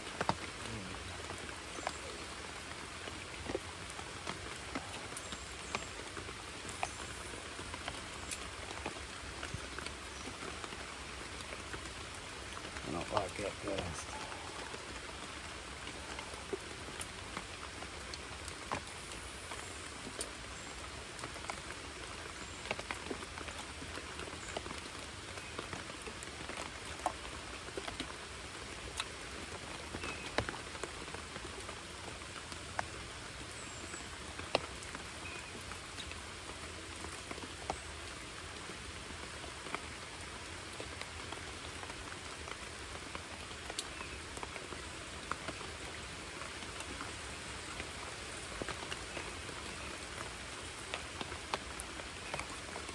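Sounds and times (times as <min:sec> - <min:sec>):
steady rain on a creek: 0:00.0 - 0:52.9.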